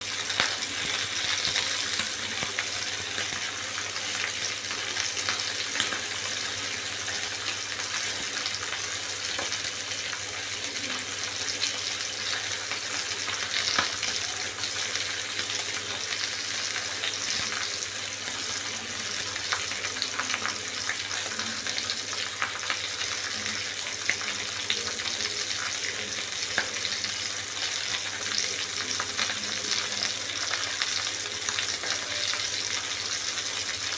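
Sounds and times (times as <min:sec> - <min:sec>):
chicken frying in oil: 0:00.0 - 0:33.9.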